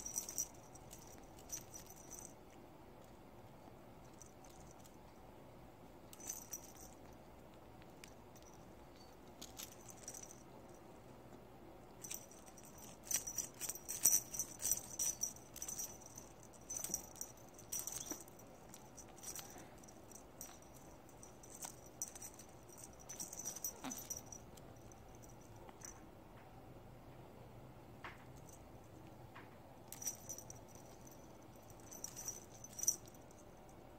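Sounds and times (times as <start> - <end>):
small metal bell jingling: 0.0 - 5.2, 6.0 - 10.9, 11.9 - 26.0, 29.8 - 33.9
light ticks and rattles: 0.0 - 26.5, 28.0 - 33.9.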